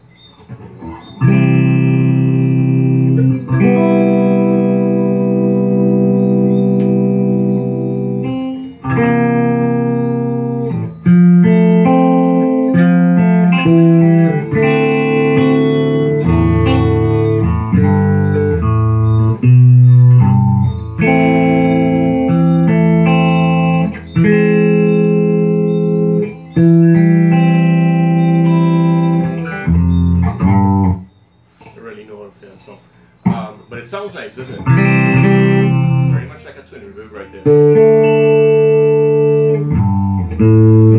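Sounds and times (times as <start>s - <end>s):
electric guitar chords and runs: 0.0s - 31.4s, 34.6s - 36.4s, 37.3s - 40.9s.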